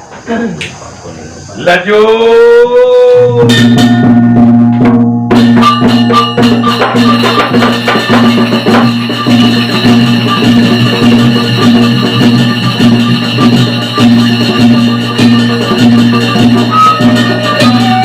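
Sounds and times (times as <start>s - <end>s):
drums: 2.2s - 18.0s
bright metallic note: 3.4s - 18.0s
gamelan ensemble playing: 3.4s - 18.0s.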